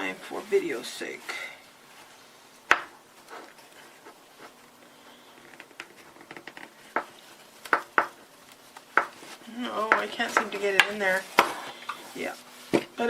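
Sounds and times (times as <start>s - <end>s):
cloth rustling: 0.0s - 13.0s.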